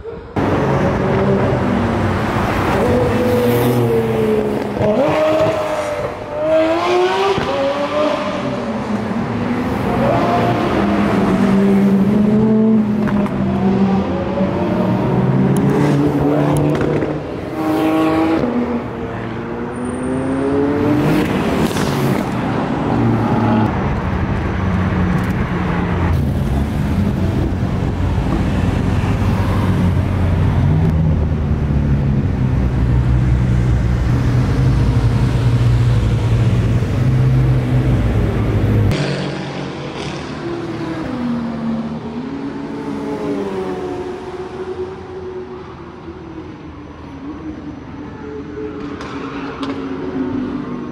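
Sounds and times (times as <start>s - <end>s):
cars revving past: 0.4s - 45.3s.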